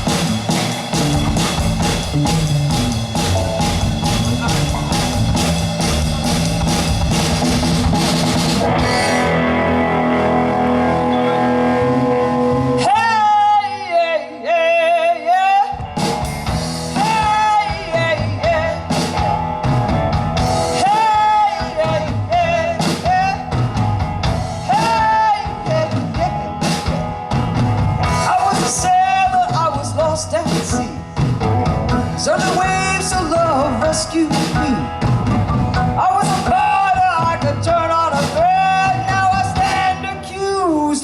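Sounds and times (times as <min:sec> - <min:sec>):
lead guitar melody: 0:00.0 - 0:28.4, 0:31.0 - 0:37.4
live blues-rock band: 0:00.0 - 0:41.0.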